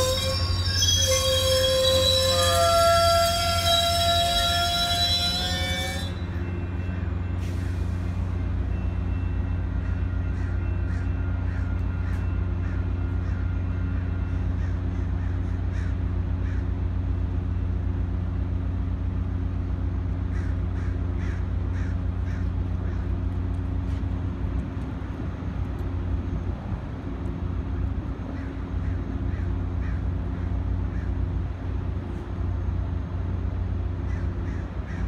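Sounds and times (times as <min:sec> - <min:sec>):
diesel train engine droning: 0:00.0 - 0:35.0.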